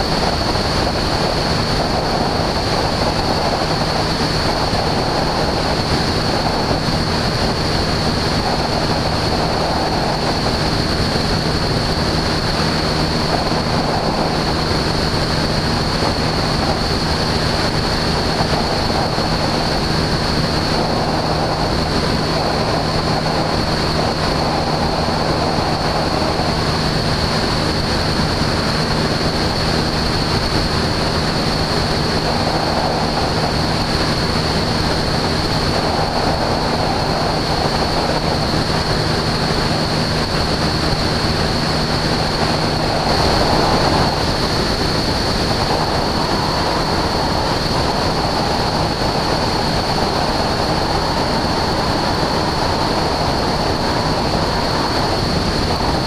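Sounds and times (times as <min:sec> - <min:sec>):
aircraft engine and propeller drone: 0:00.0 - 0:56.0
rush of air: 0:00.0 - 0:56.0.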